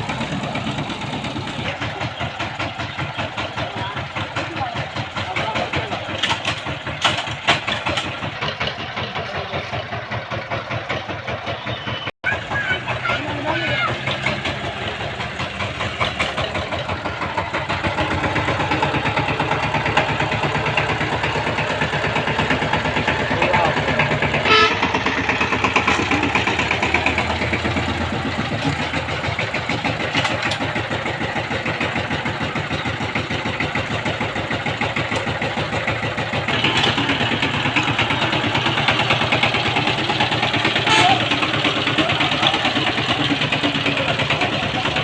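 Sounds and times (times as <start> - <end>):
tiller engine chugging: 0.0 - 45.0.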